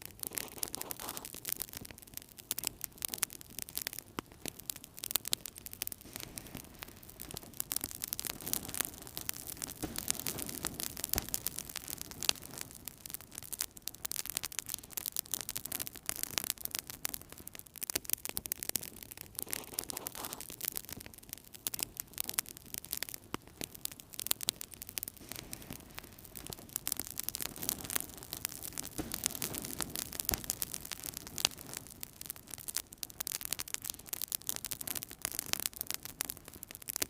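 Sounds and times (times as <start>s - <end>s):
hiss of flames: 0.0s - 17.4s, 18.8s - 20.8s, 21.7s - 37.0s
wood fire crackling: 0.0s - 37.0s.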